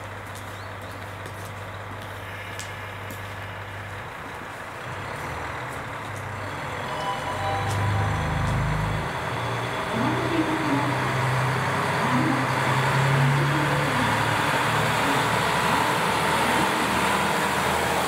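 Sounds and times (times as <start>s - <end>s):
train diesel engines idling and revving: 0.0s - 18.0s.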